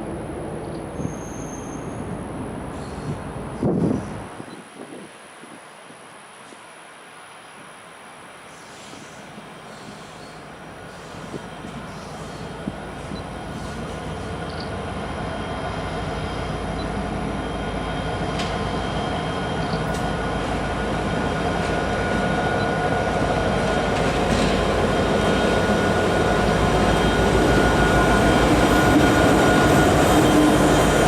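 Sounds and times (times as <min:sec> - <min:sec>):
diesel freight train approaching: 0:00.0 - 0:04.6, 0:08.5 - 0:31.0.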